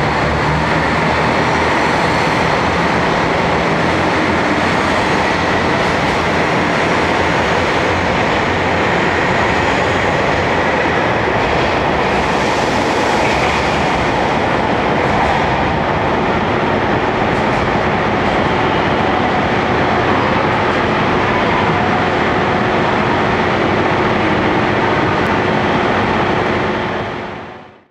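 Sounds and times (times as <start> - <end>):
train rail running noise: 0.0 - 27.9.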